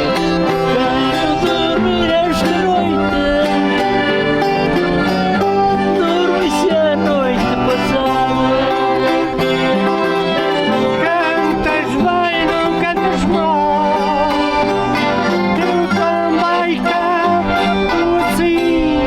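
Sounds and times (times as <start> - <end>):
accordion: 0.0 - 19.0
guitars and fiddle: 0.0 - 19.0
voices singing folk music: 0.0 - 19.0.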